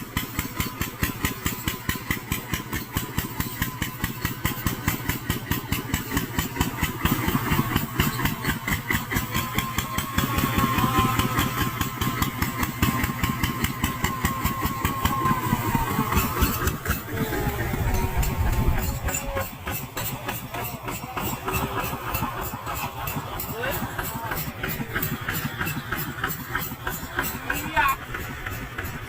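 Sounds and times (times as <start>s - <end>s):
tractor diesel engine chugging: 0.0s - 29.0s.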